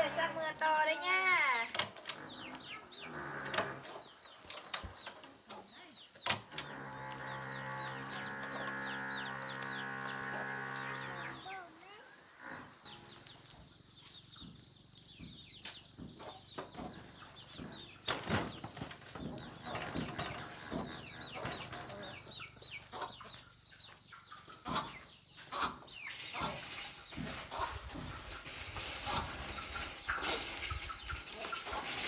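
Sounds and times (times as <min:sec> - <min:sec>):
small birds cheeping: 0:00.0 - 0:32.0.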